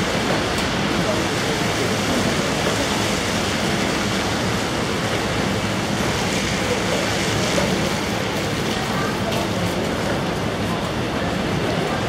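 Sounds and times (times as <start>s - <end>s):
car driving through floodwater: 0.0s - 12.0s
heavy rain: 0.0s - 12.0s.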